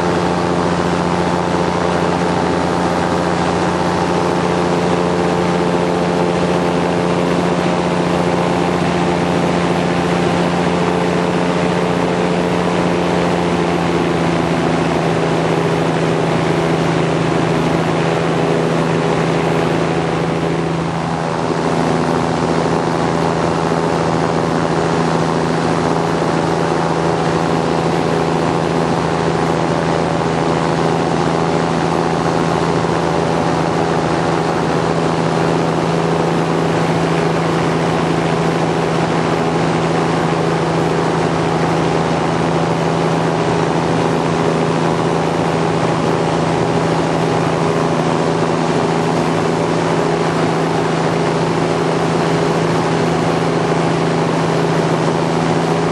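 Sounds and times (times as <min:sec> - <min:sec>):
aircraft propeller droning: 0:00.0 - 0:55.9.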